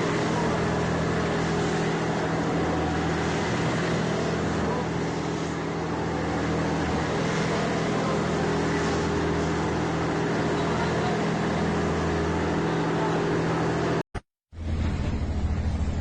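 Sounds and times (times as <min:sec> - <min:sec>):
engine humming: 0:00.0 - 0:14.0, 0:14.6 - 0:16.0
loud continuous hiss: 0:00.0 - 0:14.0.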